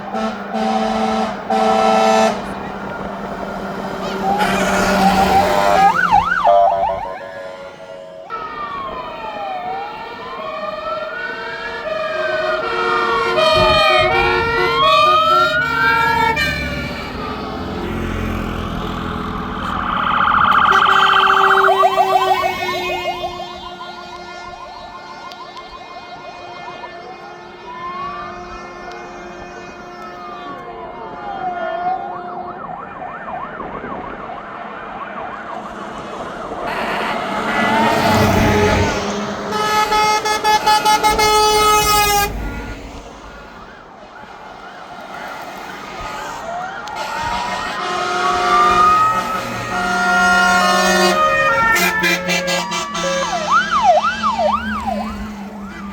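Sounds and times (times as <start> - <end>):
traffic noise: 0.0 - 55.9
two-tone sirens: 0.0 - 55.9
wailing siren: 0.0 - 55.9.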